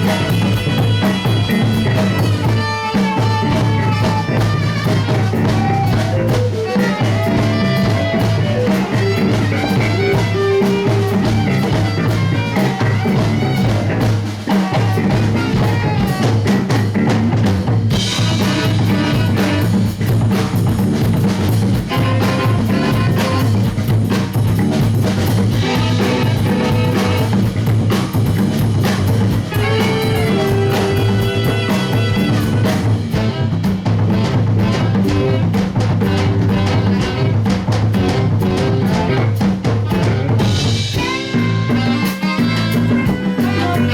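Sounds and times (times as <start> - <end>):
drum kit beat: 0.0 - 43.9
live band playing: 0.0 - 43.9.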